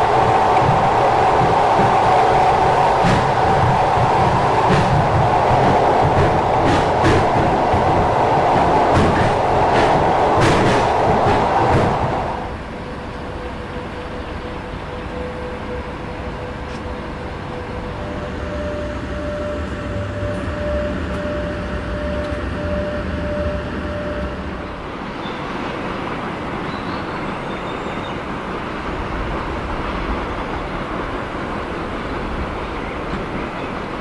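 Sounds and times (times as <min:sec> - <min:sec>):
electric train rumbling on rails: 0:00.0 - 0:34.0.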